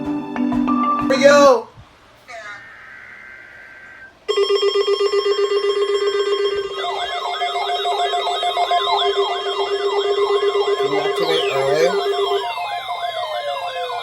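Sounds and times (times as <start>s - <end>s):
buzzy alarm tone: 2.3s - 14.0s
warbling siren tones: 2.3s - 14.0s.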